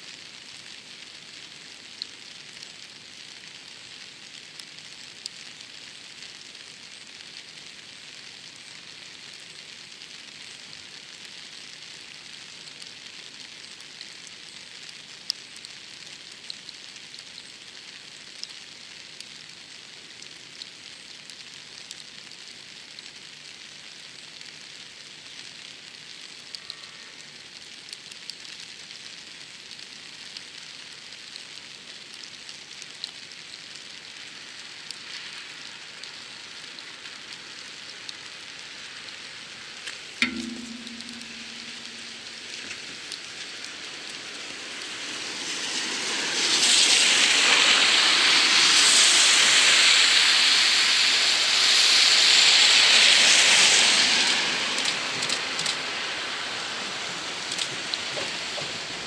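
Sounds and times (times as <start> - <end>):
raindrops ticking close by: 0.0 - 59.0
steady rain hiss: 0.0 - 59.0.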